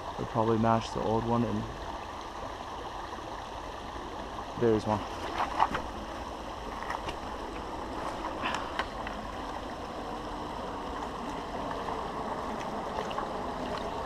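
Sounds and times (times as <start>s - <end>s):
creek running: 0.0s - 14.0s.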